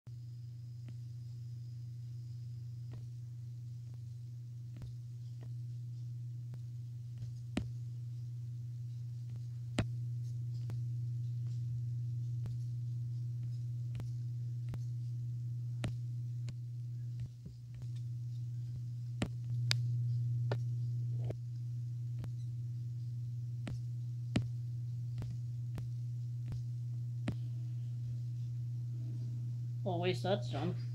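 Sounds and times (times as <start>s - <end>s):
steady low hum: 0.1s - 30.9s.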